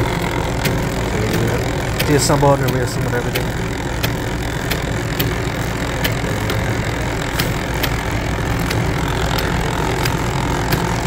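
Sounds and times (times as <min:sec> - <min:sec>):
machine motor humming: 0:00.0 - 0:11.0
light gear clicks: 0:00.6 - 0:11.0.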